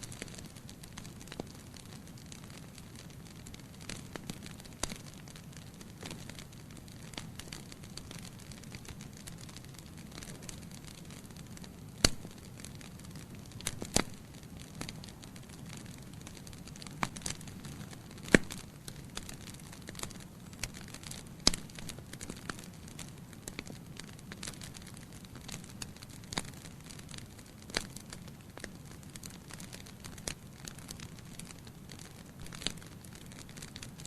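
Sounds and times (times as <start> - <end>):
logs crackling in a fireplace: 0.0 - 34.0.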